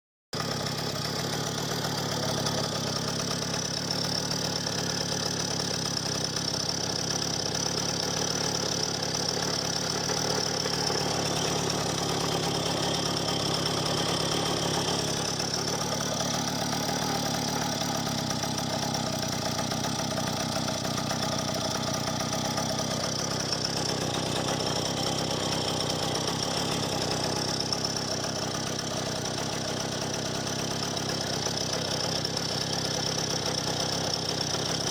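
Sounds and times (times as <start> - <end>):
two-stroke engine running: 0.4 - 34.9.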